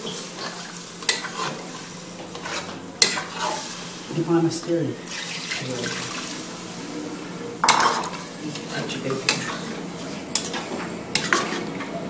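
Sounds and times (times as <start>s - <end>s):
sizzle from hot pot: 0.0s - 12.0s.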